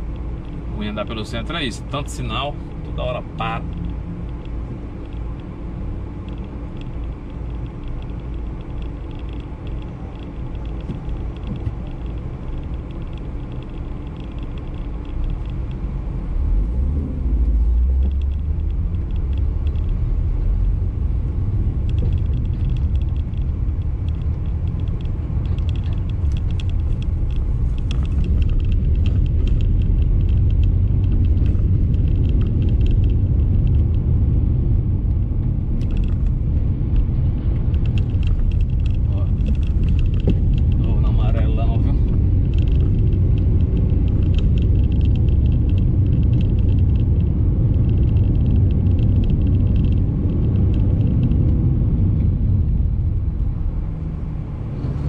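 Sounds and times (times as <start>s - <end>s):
car engine rumble: 0.0s - 55.0s.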